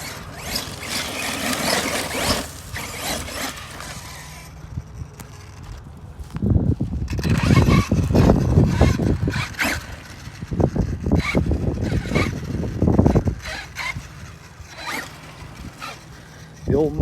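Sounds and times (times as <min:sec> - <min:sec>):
electric motor surging: 0:00.0 - 0:05.9, 0:07.0 - 0:17.0
tyres rumbling on dirt: 0:00.0 - 0:17.0.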